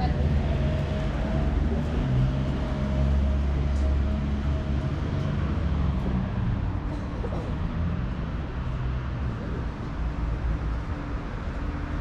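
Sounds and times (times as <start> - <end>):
street noise hum: 0.0 - 12.0
traffic engine rumble: 0.0 - 12.0.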